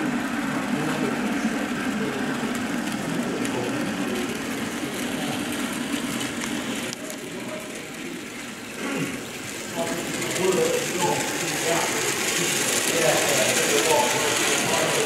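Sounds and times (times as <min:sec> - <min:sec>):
model diesel locomotive drone: 0:00.0 - 0:15.0.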